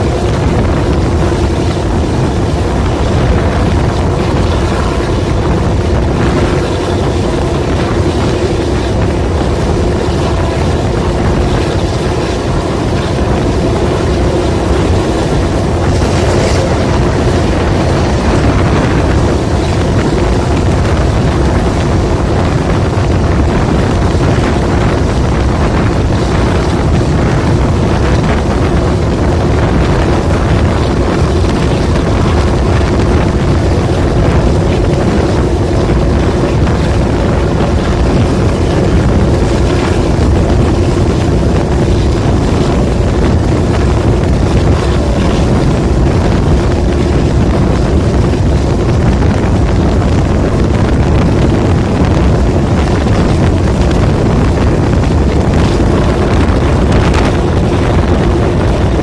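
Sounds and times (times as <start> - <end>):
diesel locomotive engine drone: 0.0 - 59.0
rushing wind: 0.0 - 59.0
train rolling noise: 0.0 - 59.0.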